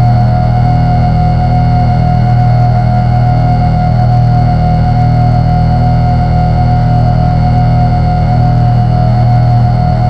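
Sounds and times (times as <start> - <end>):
buzzing low synthesizer hum: 0.0 - 10.0.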